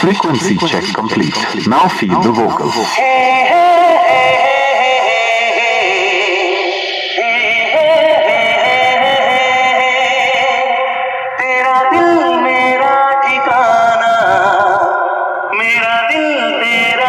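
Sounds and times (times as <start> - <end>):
recorded singing over loudspeakers: 0.0 - 17.0.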